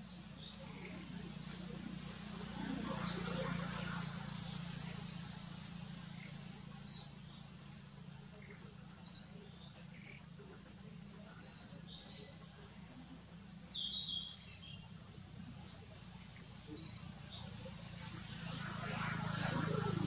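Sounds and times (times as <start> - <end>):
insect hiss: 0.0 - 20.0.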